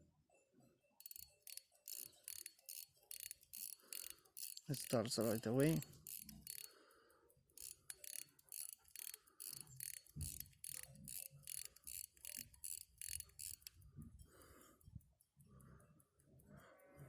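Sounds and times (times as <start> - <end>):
pocket watch ticking: 1.0 - 17.0.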